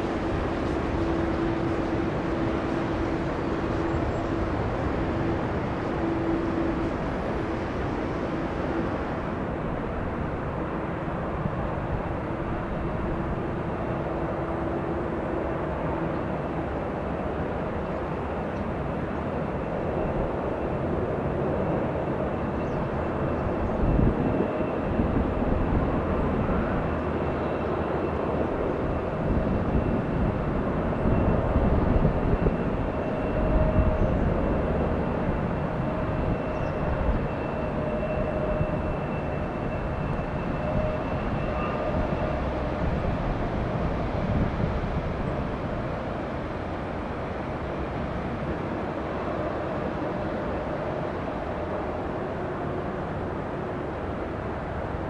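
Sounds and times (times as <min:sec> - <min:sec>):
jet engines droning with whine: 0:00.0 - 0:55.0.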